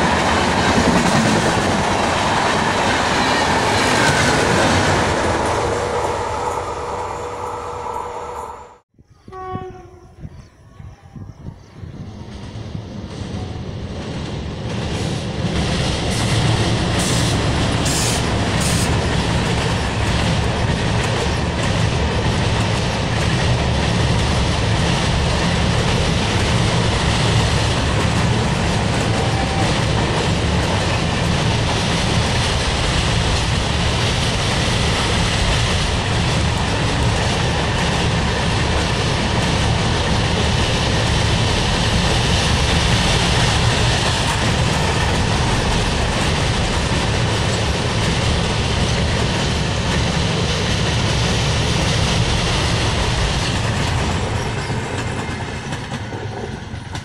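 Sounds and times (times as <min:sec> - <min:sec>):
train wheels rolling on rails: 0:00.0 - 0:08.4, 0:11.4 - 0:57.0.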